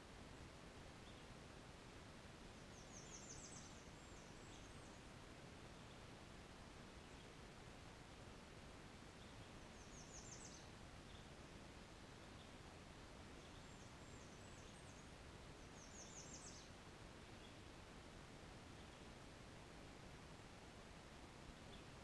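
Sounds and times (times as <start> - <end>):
faint bird song: 0.0 - 22.0
steady low hiss: 0.0 - 22.0.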